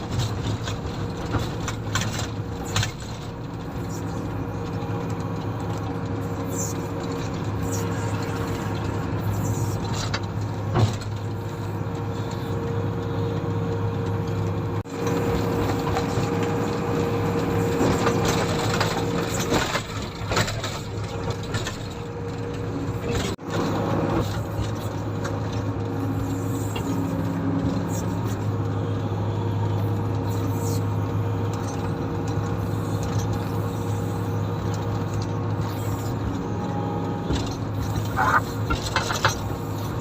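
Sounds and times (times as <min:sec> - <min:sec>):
rattling and scraping: 0:00.0 - 0:12.6, 0:14.0 - 0:28.6, 0:30.1 - 0:40.0
diesel engine running: 0:00.0 - 0:40.0.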